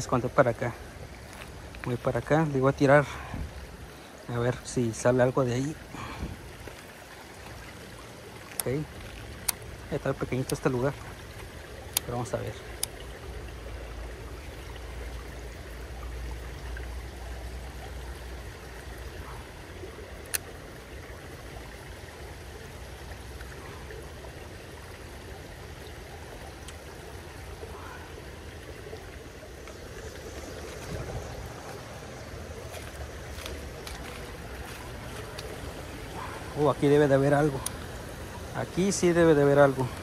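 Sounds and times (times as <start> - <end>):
creek water over rocks: 0.0 - 40.0.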